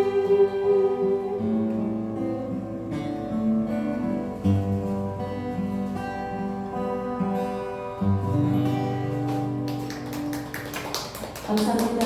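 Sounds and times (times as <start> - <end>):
acoustic guitar chords ringing: 0.0 - 10.0.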